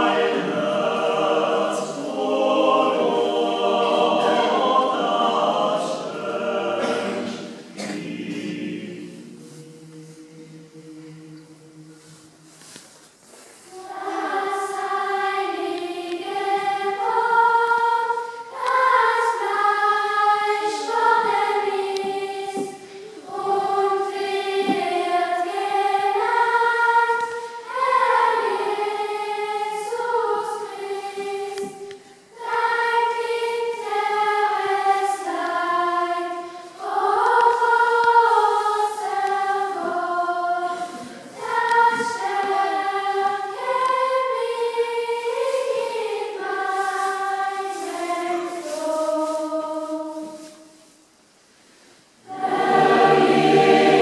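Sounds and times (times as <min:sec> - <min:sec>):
choir singing: 0:00.0 - 0:12.6, 0:13.7 - 0:50.8, 0:52.2 - 0:54.0.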